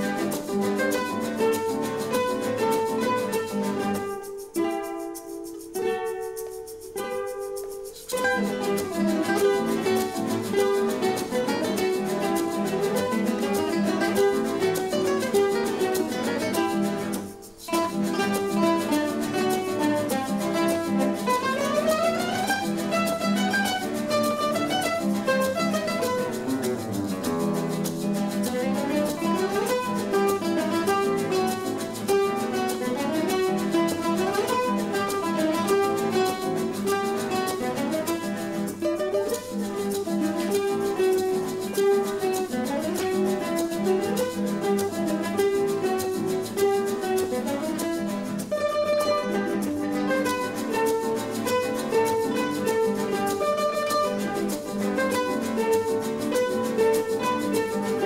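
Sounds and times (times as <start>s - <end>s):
classical guitar ensemble playing: 0.0s - 58.0s.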